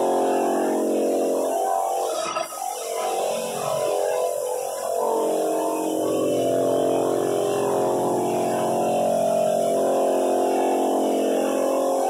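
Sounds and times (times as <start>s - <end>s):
floor sander running: 0.0s - 2.0s, 2.6s - 12.0s.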